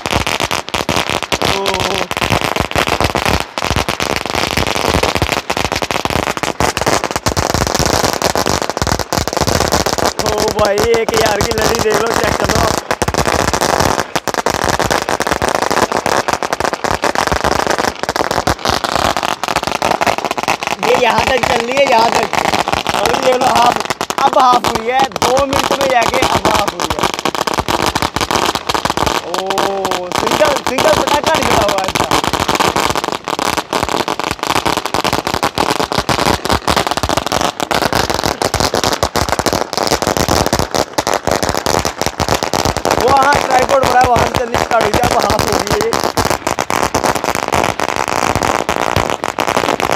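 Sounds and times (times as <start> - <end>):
string of firecrackers bursting: 0.0 - 49.9.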